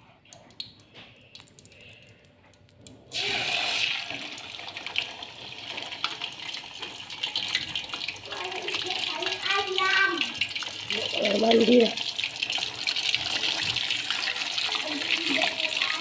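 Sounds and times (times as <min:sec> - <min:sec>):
deep-frying sizzle: 0:03.1 - 0:16.0.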